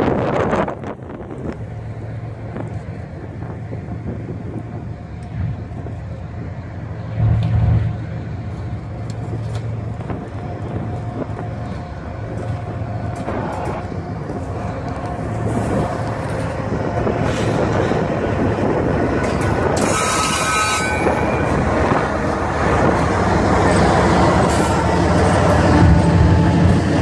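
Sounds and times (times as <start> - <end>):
locomotive engine drone: 0.0 - 27.0.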